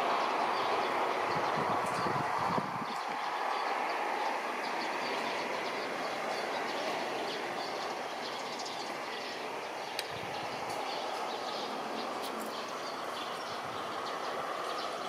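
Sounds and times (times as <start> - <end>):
city background rumble and hiss: 0.0 - 15.0.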